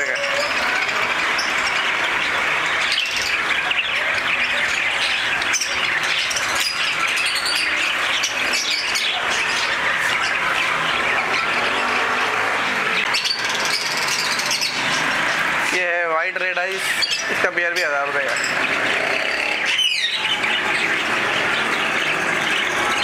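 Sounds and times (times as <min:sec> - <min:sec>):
budgerigars chattering and chirping: 0:00.0 - 0:23.0.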